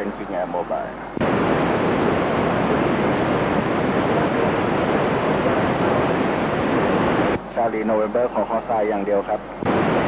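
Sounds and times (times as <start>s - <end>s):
fm radio static hiss: 0.0s - 10.0s.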